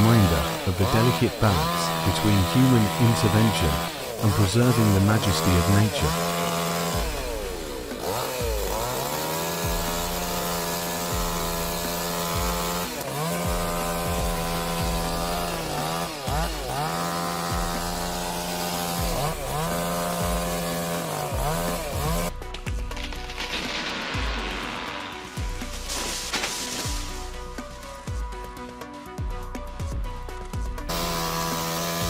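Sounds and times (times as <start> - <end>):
chainsaw running at high revs: 0.0 - 32.0.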